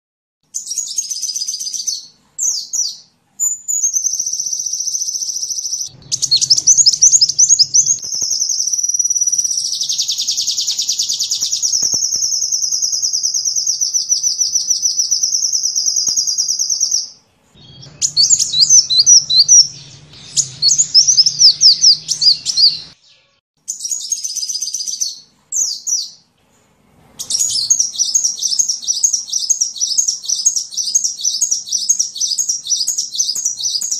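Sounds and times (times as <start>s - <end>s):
bird twittering and trilling: 0.5s - 26.2s, 27.2s - 33.9s.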